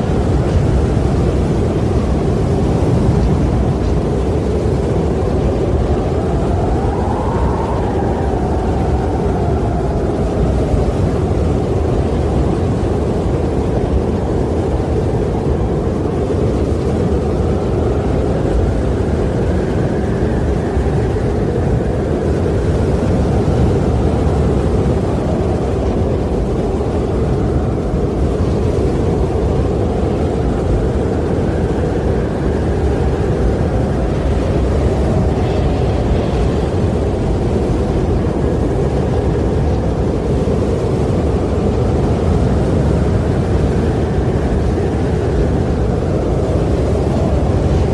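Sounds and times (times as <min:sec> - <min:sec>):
wind blowing with deep rumble: 0:00.0 - 0:47.9
faint wind whistle: 0:02.5 - 0:47.9.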